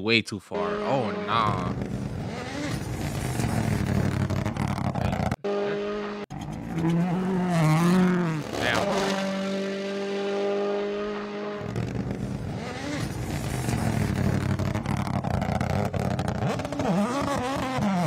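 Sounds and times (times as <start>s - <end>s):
rally car engine revving: 0.6s - 18.0s.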